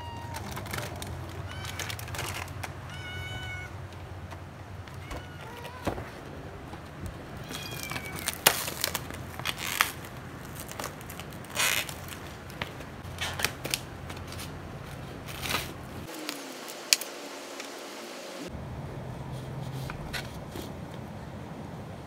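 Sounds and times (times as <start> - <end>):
foam tray and plastic crackling: 0.0 - 17.8.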